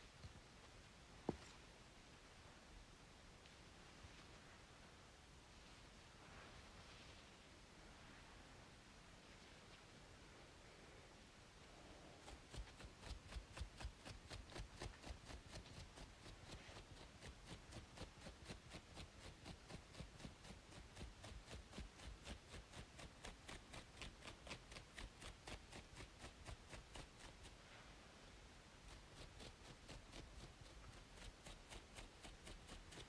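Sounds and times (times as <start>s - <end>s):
steady background hiss: 0.0s - 33.0s
scratching strokes on braided scalp: 5.5s - 11.0s, 11.6s - 33.0s.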